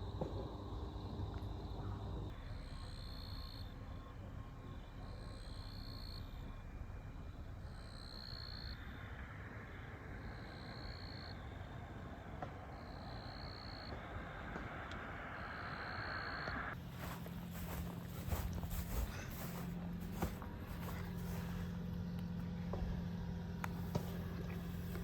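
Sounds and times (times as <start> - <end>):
outdoor hiss and rumble: 0.0 - 25.0.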